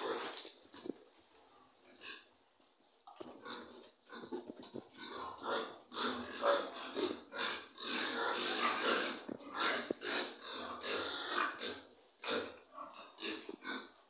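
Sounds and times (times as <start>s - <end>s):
piglets grunting and squealing: 0.0s - 0.6s, 1.8s - 2.3s, 3.2s - 14.0s.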